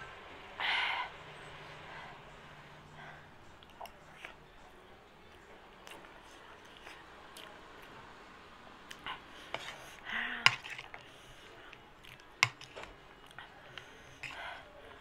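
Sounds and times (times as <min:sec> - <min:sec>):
soft eating sounds: 0:00.0 - 0:15.0.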